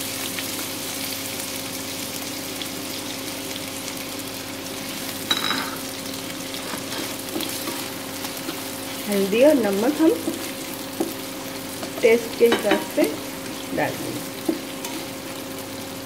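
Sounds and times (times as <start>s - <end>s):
onions sizzling in oil: 0.0s - 16.0s.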